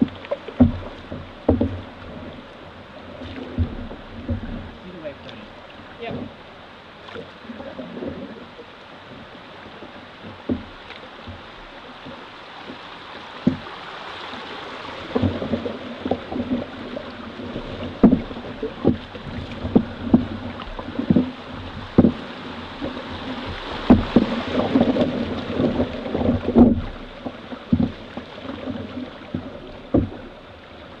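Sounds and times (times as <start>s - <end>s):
canoe knocks and thumps: 0.0s - 5.4s, 6.0s - 6.4s, 7.0s - 13.9s, 14.9s - 31.0s
water rushing and splashing: 0.0s - 31.0s.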